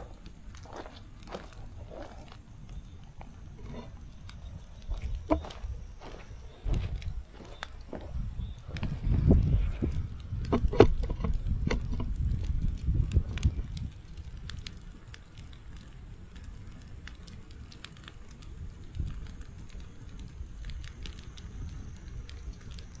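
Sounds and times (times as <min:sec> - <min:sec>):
sharp fire pops: 0:00.0 - 0:23.0
wood fire crackling: 0:00.0 - 0:23.0.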